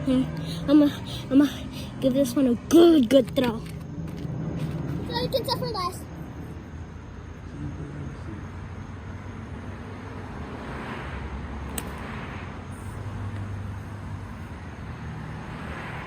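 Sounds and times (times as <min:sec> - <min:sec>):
distant road traffic: 0:00.0 - 0:16.0.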